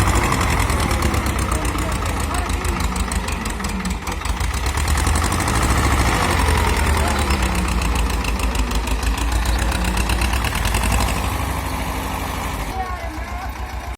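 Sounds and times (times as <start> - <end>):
tractor diesel engine running: 0.0 - 13.9.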